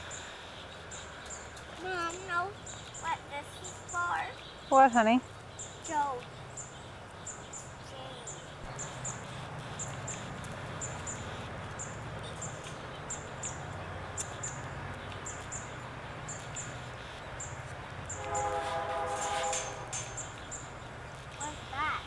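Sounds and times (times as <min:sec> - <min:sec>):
small bird chirping: 0:00.0 - 0:18.5, 0:19.8 - 0:22.0.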